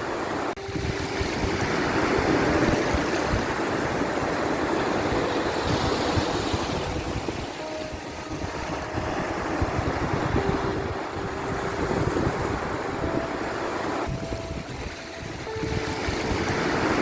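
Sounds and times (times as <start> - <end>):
sea waves washing: 0.0 - 17.0
soft long-held music notes: 0.0 - 17.0.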